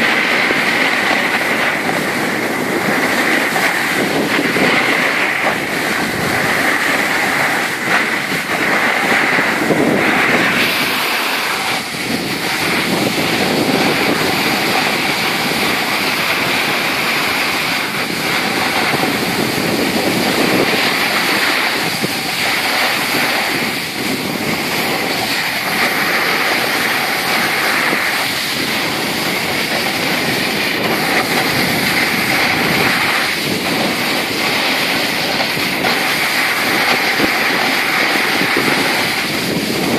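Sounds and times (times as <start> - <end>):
skis scraping on packed snow: 0.0 - 39.9
wind on microphone: 0.0 - 39.9.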